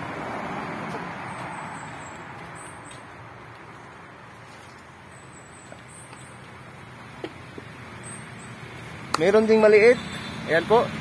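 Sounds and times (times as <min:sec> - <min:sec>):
distant road traffic: 0:00.0 - 0:11.0.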